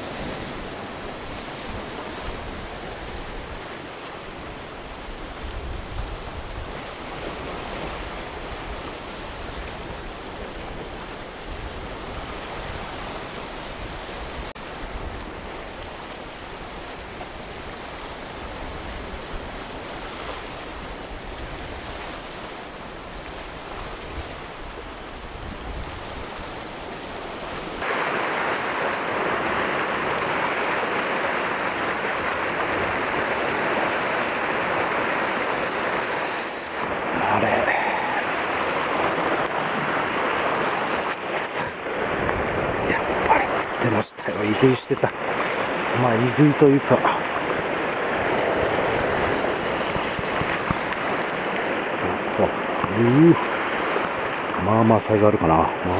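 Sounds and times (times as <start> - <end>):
surf washing over rocks: 0.0 - 55.9.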